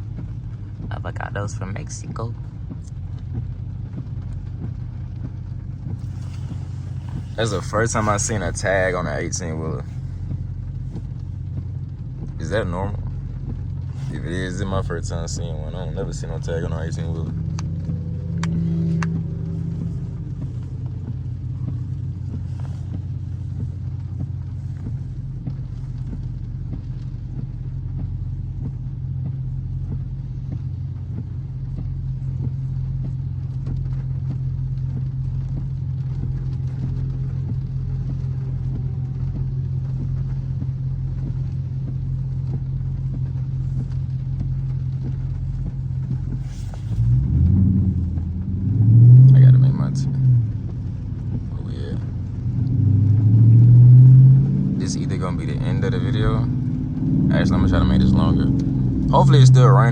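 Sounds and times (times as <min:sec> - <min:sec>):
car engine drone from inside: 0:00.0 - 0:59.9.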